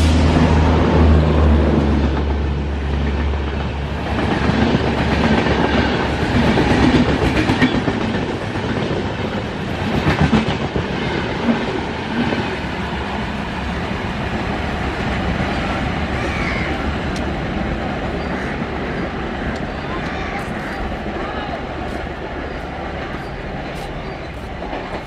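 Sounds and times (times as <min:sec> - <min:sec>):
train rumble on rails: 0:00.0 - 0:25.0
wheels clickety-clack on rail joints: 0:00.0 - 0:25.0.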